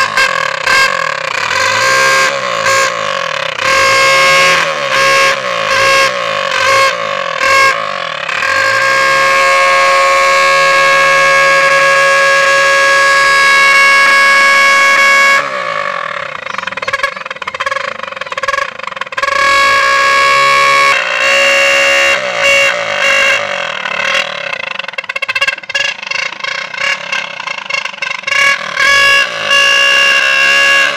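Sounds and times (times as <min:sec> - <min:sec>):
toy trumpets honking on exhaust: 0:00.0 - 0:30.9.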